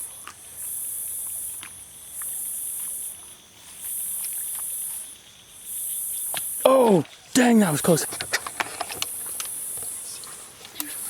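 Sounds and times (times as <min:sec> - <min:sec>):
insects buzzing chorus: 0:00.0 - 0:11.0.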